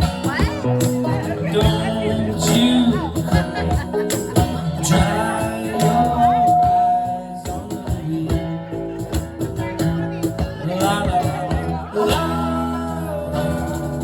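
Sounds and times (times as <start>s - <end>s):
live band music: 0.0s - 14.0s.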